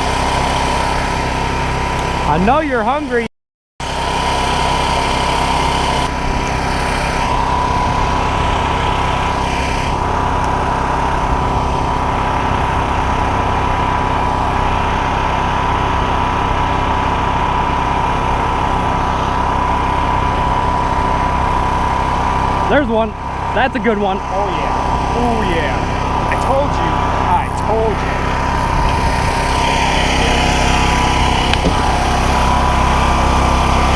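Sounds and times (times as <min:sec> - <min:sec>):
small engine running: 0:00.0 - 0:33.9
high-pitched whine: 0:03.9 - 0:33.9.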